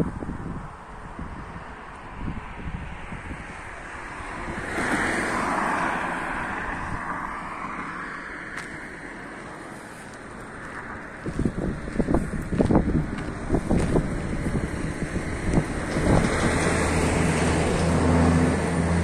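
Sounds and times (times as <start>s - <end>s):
wind buffeting microphone: 0.0s - 7.8s, 10.1s - 19.0s
rushing wind and road noise: 0.0s - 19.0s.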